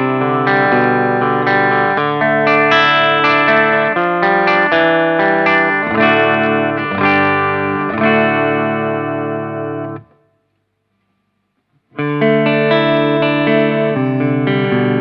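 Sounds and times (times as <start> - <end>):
electric guitar chords ringing: 0.0 - 10.4, 12.0 - 15.0.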